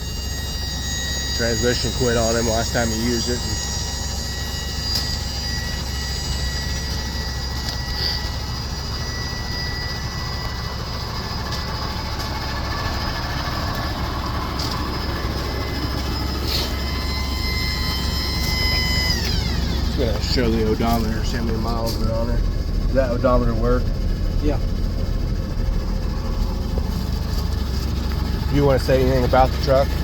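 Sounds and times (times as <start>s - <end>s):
mechanical whine: 0.0s - 30.0s.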